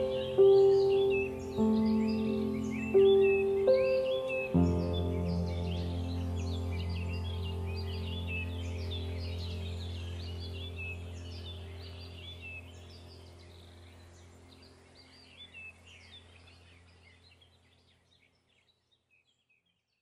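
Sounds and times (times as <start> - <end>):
low steady hum: 0.0 - 17.9
small birds chirping: 0.0 - 20.0.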